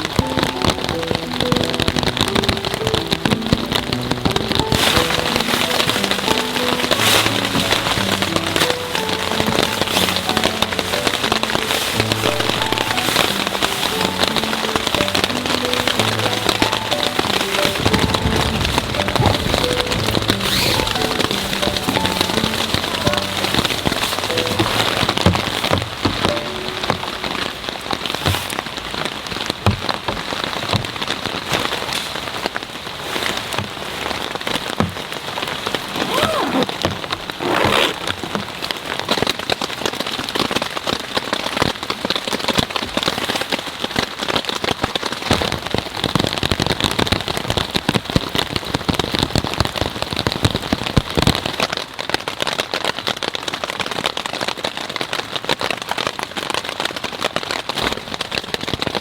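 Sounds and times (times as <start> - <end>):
raindrops striking close by: 0.0 - 59.0
steady rain: 0.0 - 59.0.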